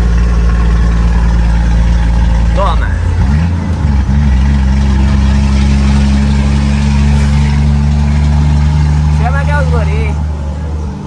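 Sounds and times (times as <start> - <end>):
diesel truck engine drone: 0.0 - 11.0.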